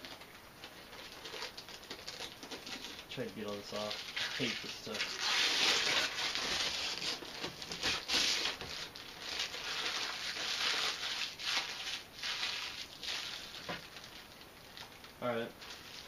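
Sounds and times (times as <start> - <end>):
plastic wrap crinkling: 0.0 - 16.0.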